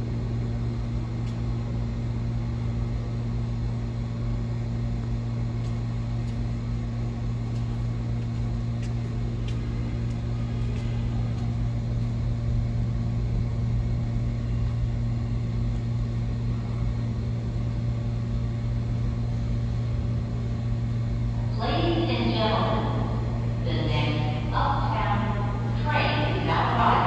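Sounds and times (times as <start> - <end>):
subway train hum and rumble: 0.0 - 27.0.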